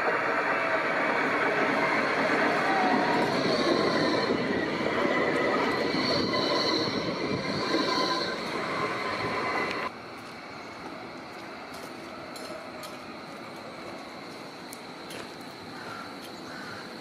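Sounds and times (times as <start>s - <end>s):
street noise: 0.0s - 17.0s
tram wheels squealing on rails: 0.0s - 17.0s.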